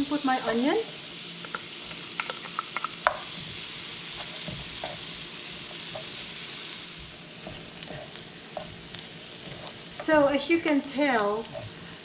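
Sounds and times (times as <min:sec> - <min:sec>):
onion sizzling in butter: 0:00.0 - 0:12.0.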